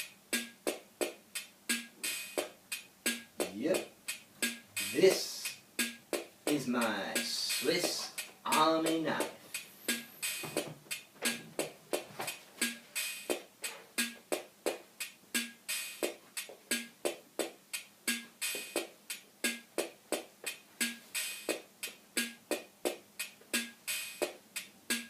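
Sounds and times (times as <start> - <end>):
quick percussion beat: 0.0 - 25.0.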